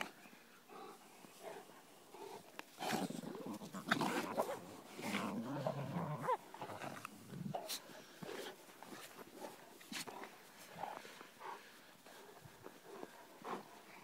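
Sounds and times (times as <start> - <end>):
dogs growling while play-fighting: 0.7 - 14.0.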